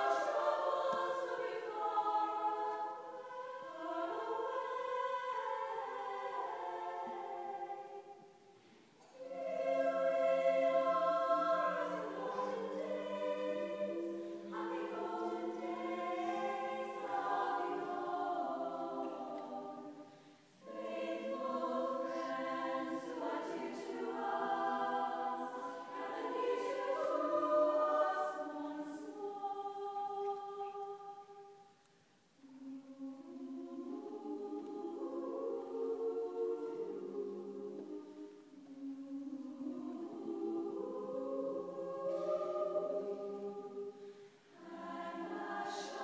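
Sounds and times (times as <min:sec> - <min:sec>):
choir singing in harmony: 0:00.0 - 0:46.0.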